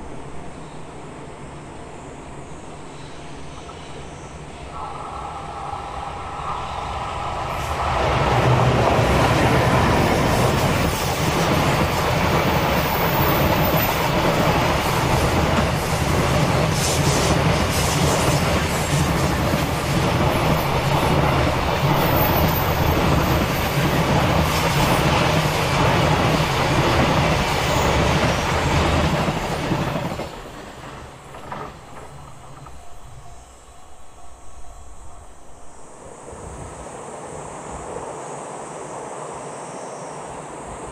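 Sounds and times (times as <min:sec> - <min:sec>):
freight train wheels rumbling on rails: 0:00.0 - 0:35.3.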